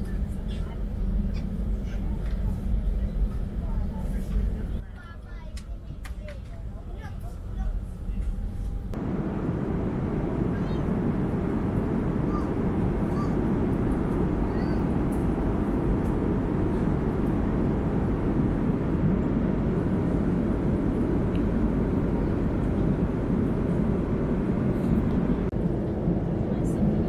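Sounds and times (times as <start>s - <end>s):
airplane cabin engine rush: 0.0s - 27.0s.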